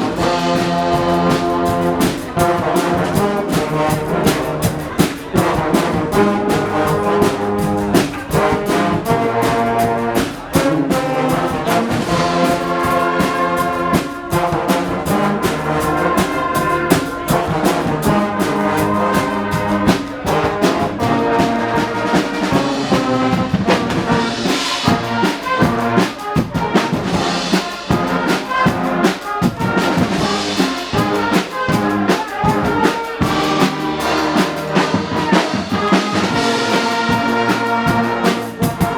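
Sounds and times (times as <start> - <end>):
driving drum beat: 0.0 - 38.9
trumpets and trombones blaring: 0.0 - 38.9.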